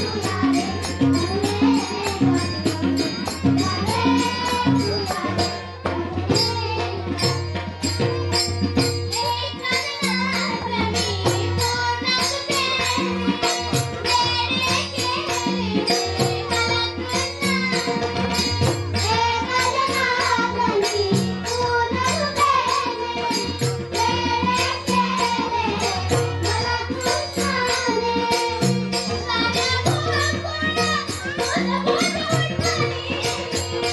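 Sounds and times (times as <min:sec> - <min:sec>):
quick percussion beat: 0:00.0 - 0:33.9.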